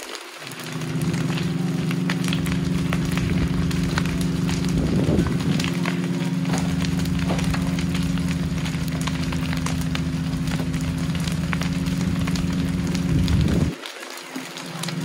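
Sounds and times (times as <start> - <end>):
burning building crackling: 0.0 - 15.0
loud engine hum: 0.6 - 13.8, 14.7 - 15.0.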